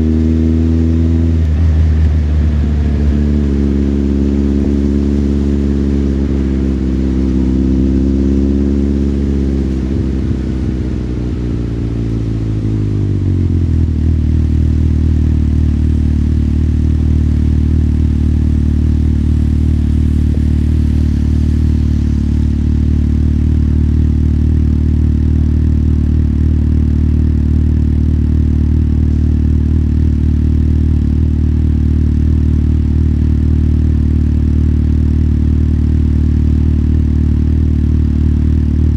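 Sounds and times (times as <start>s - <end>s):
motorcycle engine slowing to idle: 1.3s - 38.9s.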